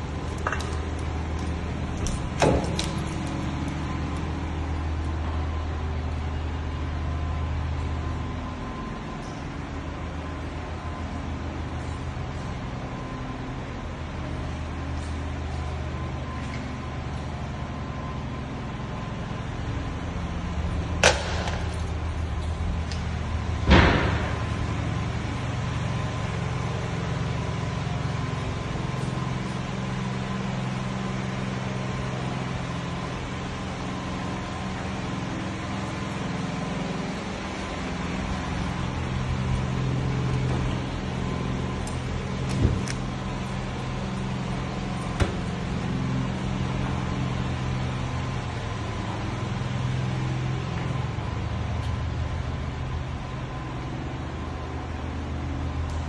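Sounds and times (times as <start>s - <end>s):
low motor drone: 0.0s - 56.0s.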